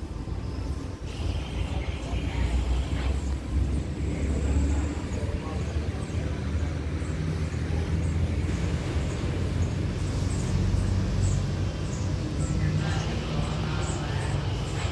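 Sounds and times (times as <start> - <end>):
diesel locomotive rumbling: 0.0 - 14.9.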